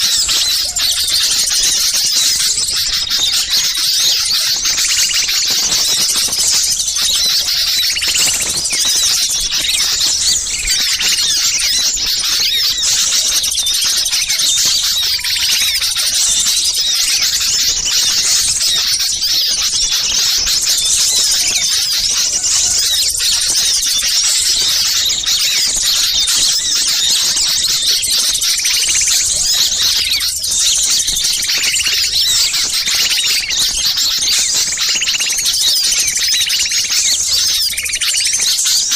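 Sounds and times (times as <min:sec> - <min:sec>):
small songbirds twittering: 0:00.0 - 0:38.9.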